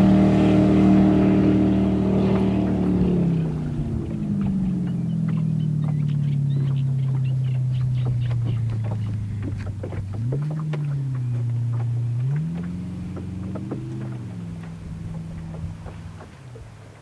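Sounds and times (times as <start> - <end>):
speedboat engine at speed: 0.0 - 17.0.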